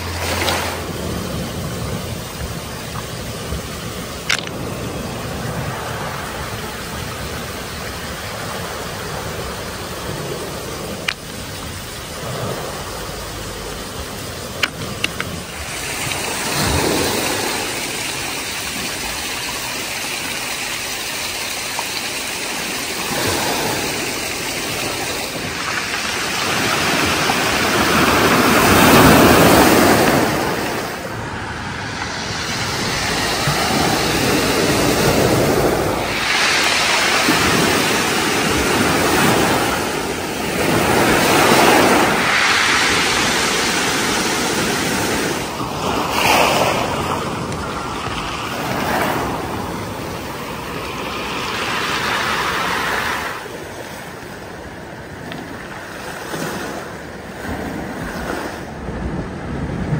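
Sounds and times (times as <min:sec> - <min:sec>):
waves washing on pebble beach: 0:00.0 - 0:59.9.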